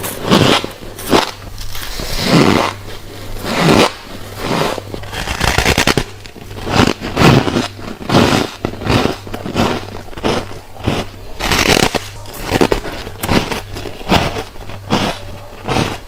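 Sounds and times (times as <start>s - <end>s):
crunching and chewing frost: 0.0s - 16.0s
steady low hum: 0.0s - 16.0s.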